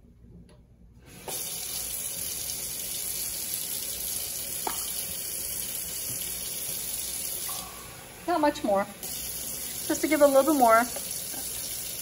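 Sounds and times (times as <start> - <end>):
kitchen tap running: 1.1 - 12.0.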